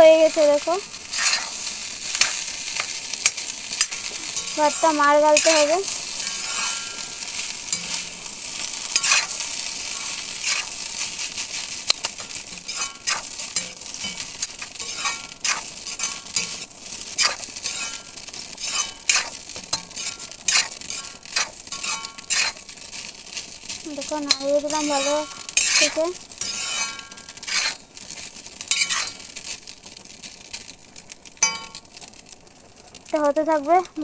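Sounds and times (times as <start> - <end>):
rice sizzling in a pan: 0.0 - 34.0
metal spoon scraping a pan: 0.2 - 29.6, 31.4 - 31.9.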